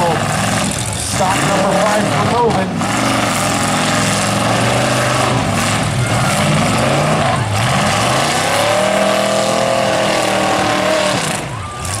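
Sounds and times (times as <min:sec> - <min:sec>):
truck engines revving hard: 0:00.0 - 0:12.0
trucks ramming each other: 0:00.0 - 0:12.0.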